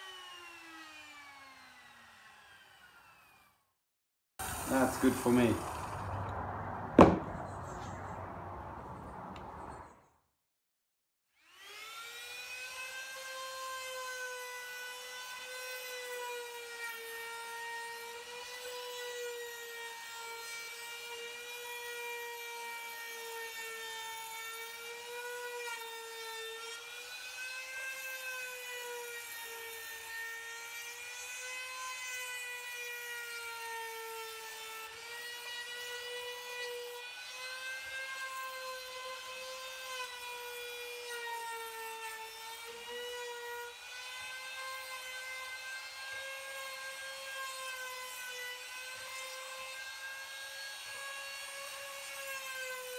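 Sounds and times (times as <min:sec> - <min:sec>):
router cutting wood: 0:00.0 - 0:03.6, 0:04.4 - 0:08.1, 0:11.4 - 0:52.9.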